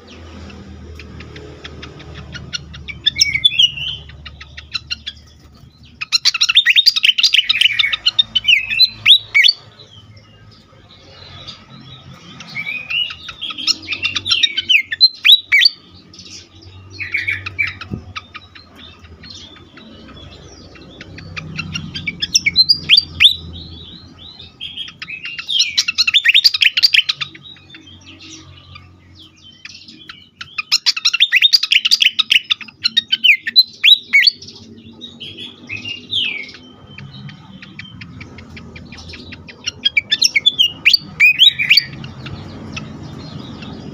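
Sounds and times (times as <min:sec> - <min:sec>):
songbird rapid chirps: 0:00.0 - 0:43.9.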